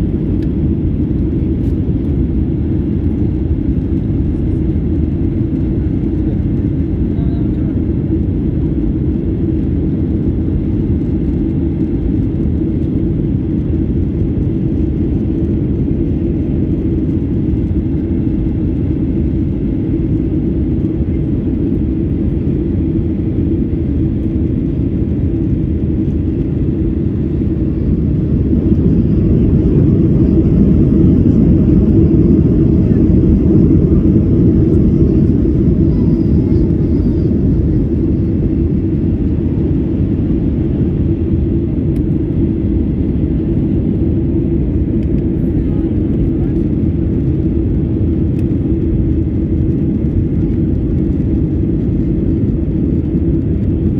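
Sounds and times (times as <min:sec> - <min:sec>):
jet engine rumble: 0:00.0 - 0:53.9.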